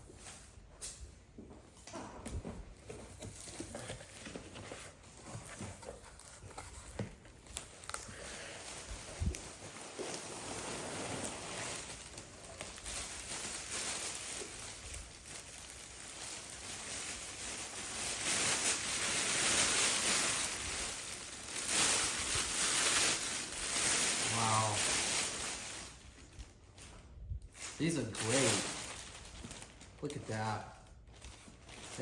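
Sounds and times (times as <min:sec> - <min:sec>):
packaging rustling and crinkling: 0:02.7 - 0:32.0.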